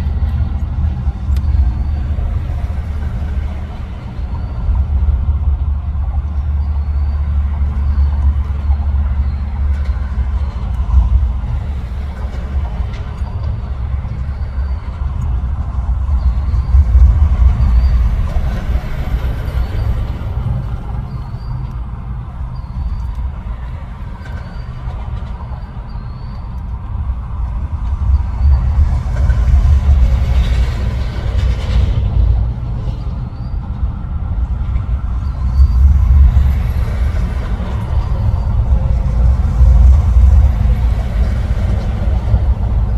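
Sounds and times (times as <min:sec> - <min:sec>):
traffic rumble on bridge: 0:00.0 - 0:42.9.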